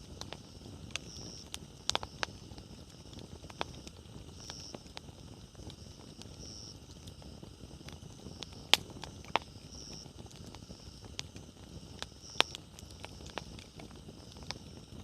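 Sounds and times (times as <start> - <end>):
bonfire crackling: 0.0 - 15.0
sharp pops from fire: 0.0 - 15.0.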